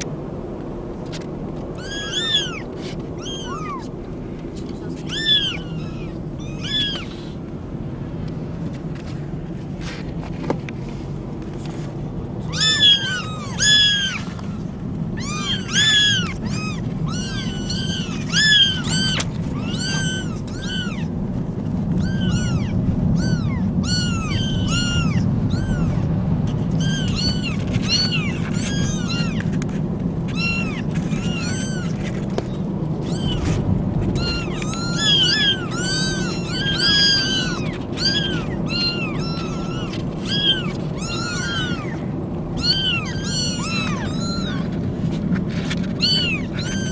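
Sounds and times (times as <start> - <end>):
steady low rumble: 0.0 - 46.9
kittens mewing: 1.1 - 7.5, 12.3 - 46.9.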